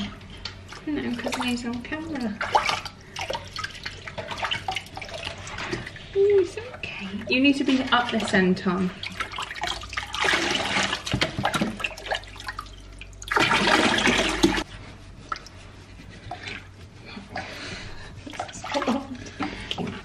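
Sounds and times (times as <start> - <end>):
water splashing in a sink: 0.0 - 14.7, 18.2 - 20.0.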